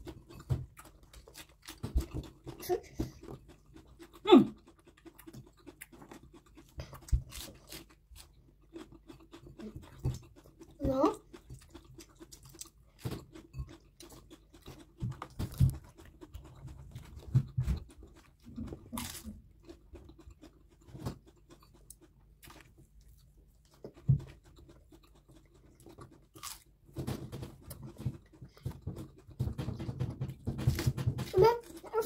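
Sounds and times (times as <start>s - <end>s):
people chewing food: 0.0s - 32.0s.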